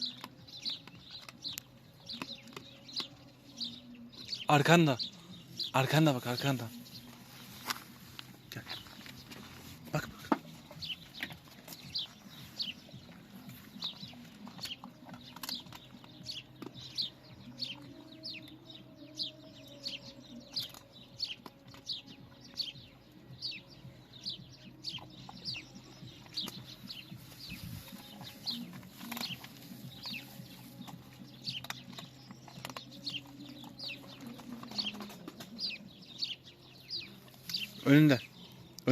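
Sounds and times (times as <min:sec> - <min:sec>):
birds peeping: 0:00.0 - 0:38.9.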